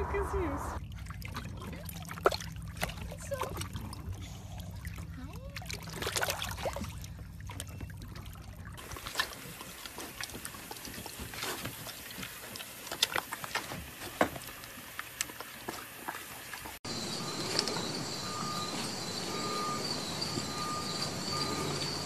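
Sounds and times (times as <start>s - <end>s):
water sloshing: 0.0s - 22.0s.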